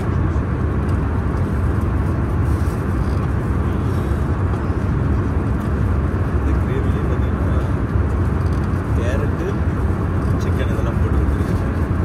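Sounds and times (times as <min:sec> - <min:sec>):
low rumble of vehicle noise: 0:00.0 - 0:12.0.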